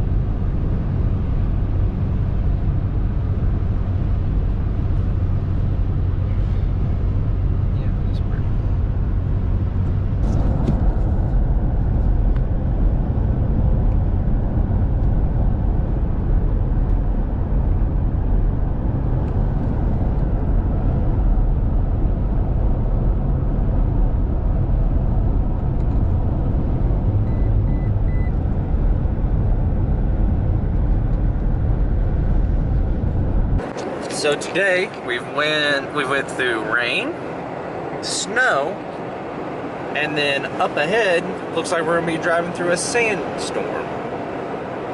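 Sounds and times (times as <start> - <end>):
truck engine and road rumble: 0.0 - 44.9.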